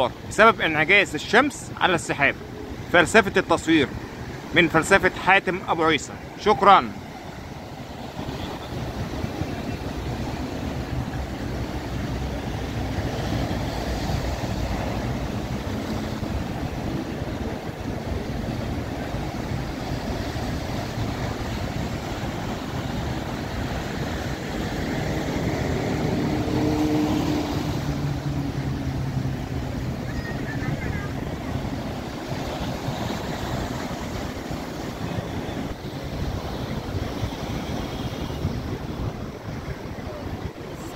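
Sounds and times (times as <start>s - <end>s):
boat engine hum: 0.0s - 40.9s
sea waves washing: 0.0s - 40.9s
wind buffeting microphone: 6.1s - 40.9s.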